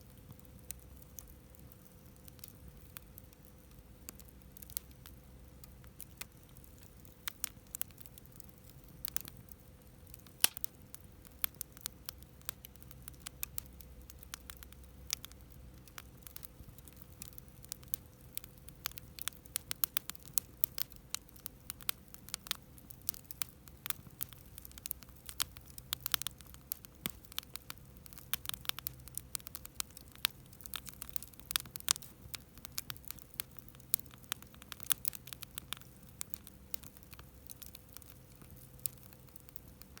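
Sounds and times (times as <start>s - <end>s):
campfire crackling and popping: 0.0s - 40.0s
faint steady hum: 0.0s - 40.0s.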